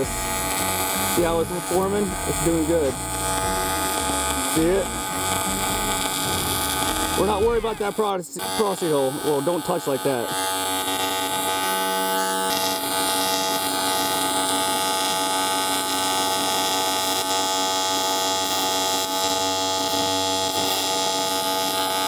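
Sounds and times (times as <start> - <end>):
welding arc buzzing: 0.0 - 22.0.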